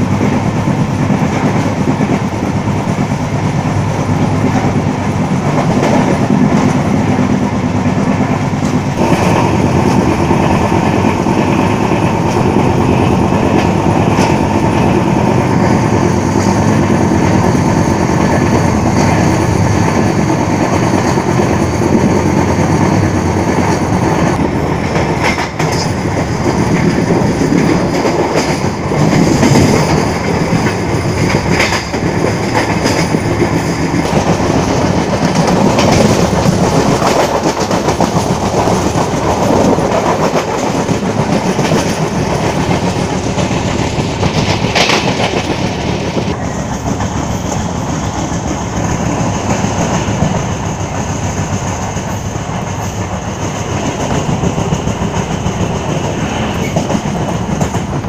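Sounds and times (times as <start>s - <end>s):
rushing air: 0.0s - 58.0s
train wheels rumbling on rails: 0.0s - 58.0s.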